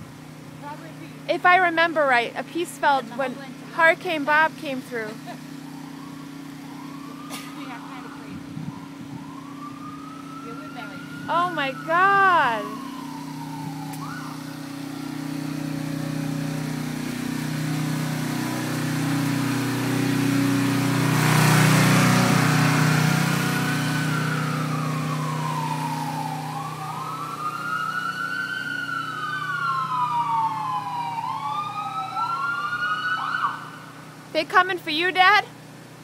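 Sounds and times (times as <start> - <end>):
heavy engines running: 0.0 - 36.0
sirens wailing: 3.2 - 34.3.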